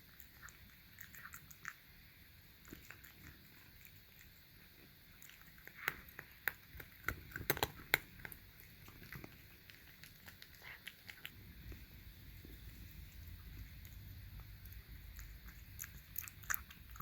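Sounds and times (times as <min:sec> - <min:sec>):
cat chewing and licking food: 0:00.0 - 0:17.0.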